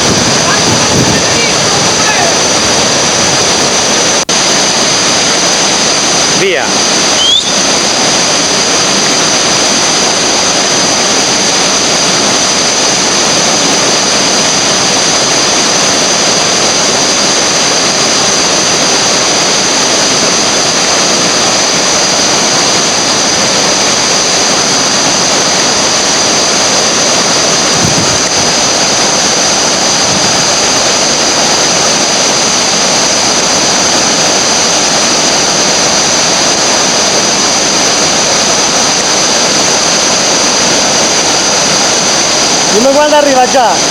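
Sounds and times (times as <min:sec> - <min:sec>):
whitewater rushing: 0:00.0 - 0:43.9.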